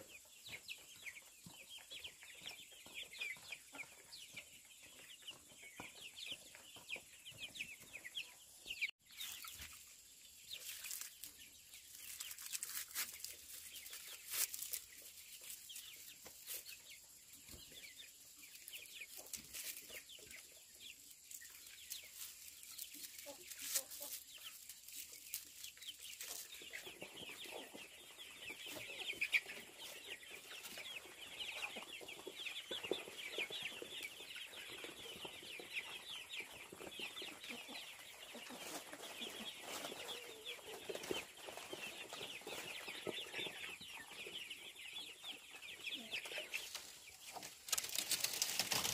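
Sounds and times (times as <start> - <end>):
chickens clucking and peeping: 0.0 - 48.9.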